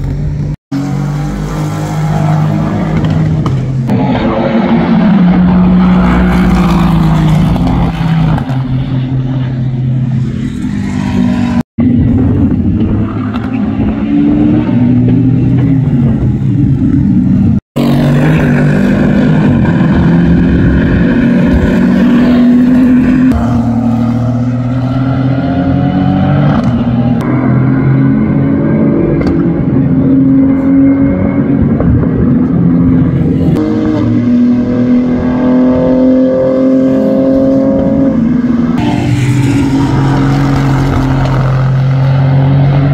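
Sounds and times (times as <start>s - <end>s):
racing car engines accelerating: 0.0s - 42.9s.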